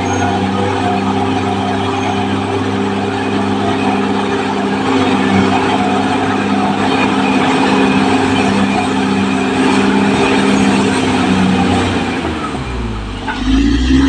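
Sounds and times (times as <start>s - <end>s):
clattering tracks: 0.0s - 13.7s
bulldozer diesel engine running: 0.0s - 14.0s.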